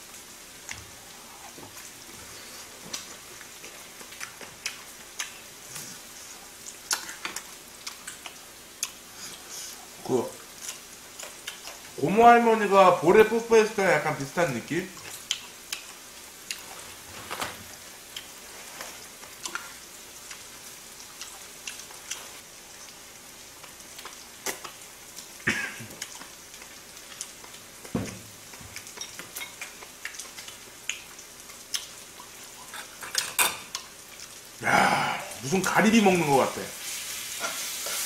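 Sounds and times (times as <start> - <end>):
meat sizzling in oil: 0.0 - 38.0
eating sounds: 0.6 - 12.0, 14.8 - 17.0, 17.8 - 36.4.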